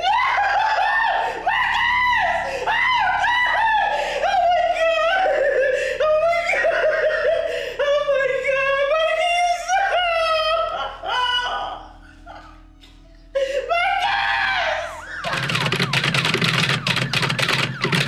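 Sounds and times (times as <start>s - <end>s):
woman wailing and screaming: 0.0s - 12.5s, 13.4s - 16.0s.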